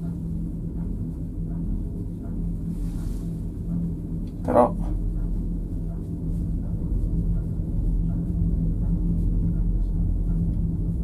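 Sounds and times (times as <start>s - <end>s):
constant low hum: 0.0s - 11.0s
gondola cabin rumble: 0.0s - 11.0s.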